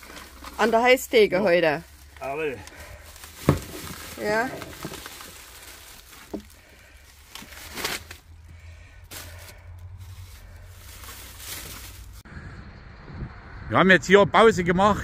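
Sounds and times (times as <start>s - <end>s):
plastic bags rustling: 0.0s - 12.2s.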